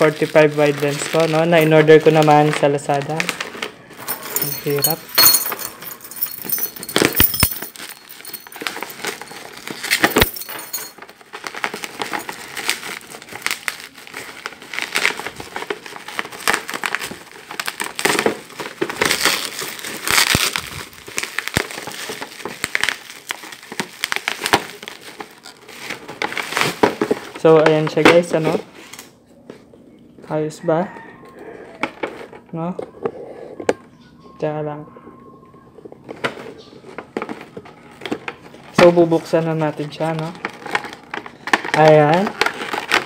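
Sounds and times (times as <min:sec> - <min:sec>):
bubble wrap crinkling and crackling: 0:00.0 - 0:29.2, 0:36.0 - 0:43.0.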